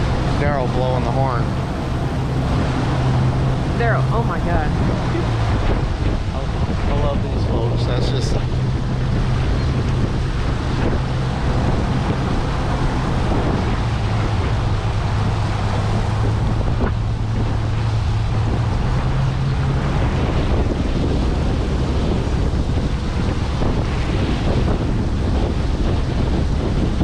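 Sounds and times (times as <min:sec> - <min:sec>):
boat engine humming: 0:00.0 - 0:27.0
rushing water: 0:00.0 - 0:27.0
wind buffeting microphone: 0:00.0 - 0:27.0.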